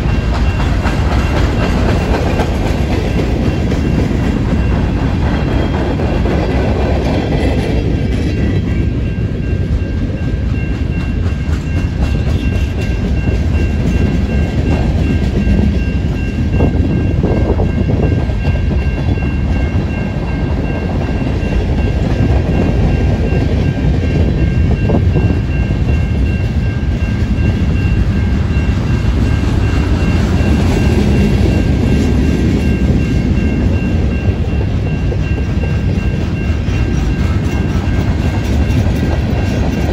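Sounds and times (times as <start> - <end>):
crossing bell ringing: 0.0 - 39.9
freight train wheels rumbling: 0.0 - 39.9.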